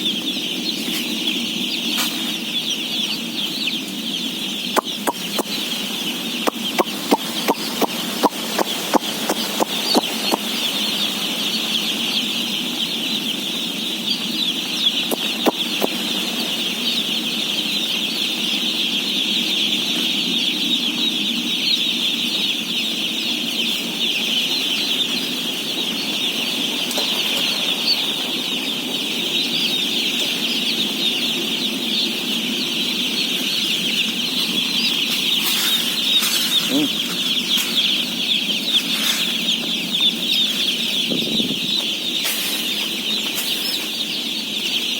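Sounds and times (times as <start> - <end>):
chicks peeping: 0.0 - 44.9.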